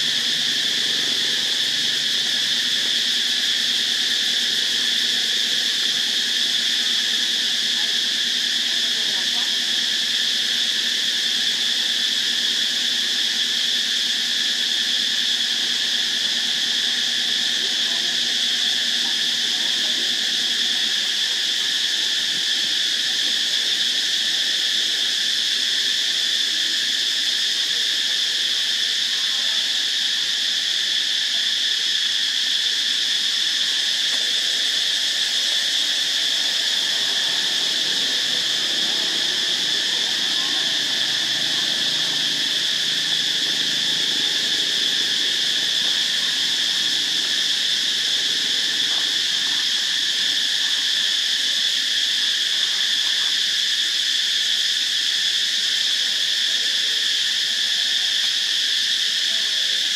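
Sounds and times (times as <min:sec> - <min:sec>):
insect chorus buzzing: 0:00.0 - 0:59.9.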